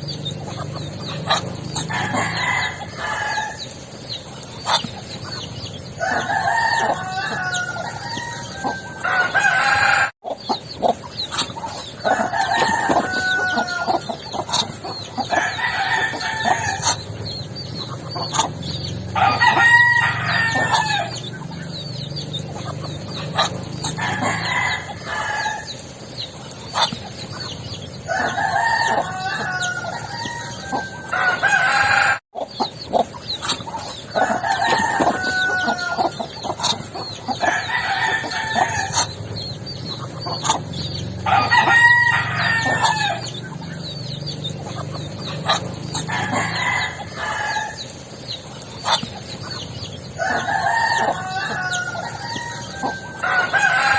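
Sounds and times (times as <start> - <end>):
roosters crowing: 0.0 - 5.2, 5.8 - 53.9
chickens clucking: 0.0 - 53.9.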